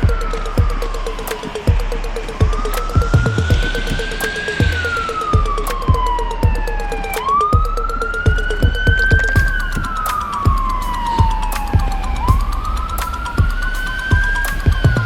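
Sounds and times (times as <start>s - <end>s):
regular thuds: 0.0s - 15.0s
siren wailing: 0.0s - 15.0s.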